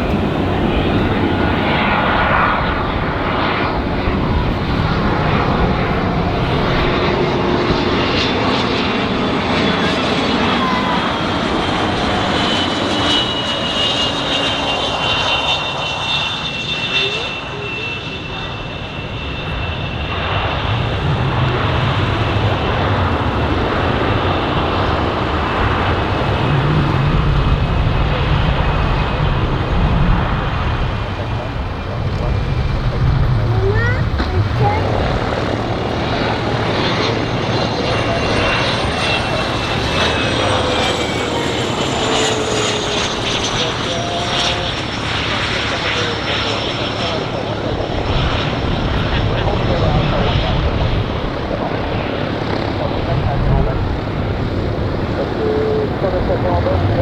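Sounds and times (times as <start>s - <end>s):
jet engines with turbine whine: 0.0s - 57.0s
low jet rumble: 0.0s - 57.0s.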